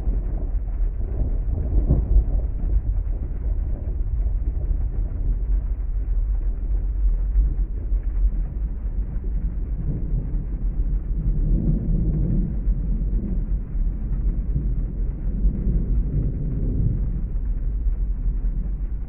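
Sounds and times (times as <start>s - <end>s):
heavy rain low rumble: 0.0s - 19.0s
rumbling thunder: 0.0s - 19.0s.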